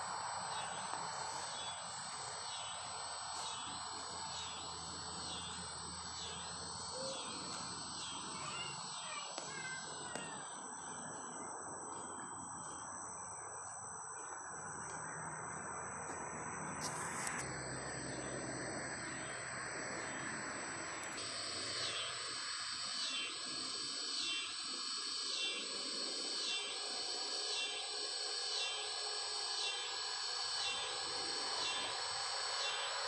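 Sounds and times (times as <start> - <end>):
insects buzzing: 0.0 - 33.0
rhythmic pulsing insect call: 0.0 - 33.0.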